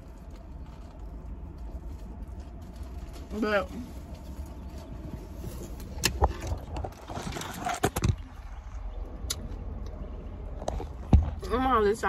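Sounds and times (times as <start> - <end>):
car rumble: 0.0 - 12.0.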